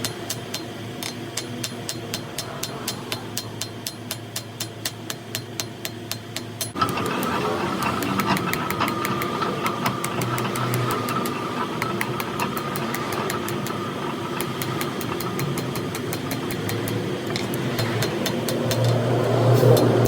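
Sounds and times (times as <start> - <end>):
machine hum: 0.0 - 20.0
rapid regular ticking: 0.0 - 20.0.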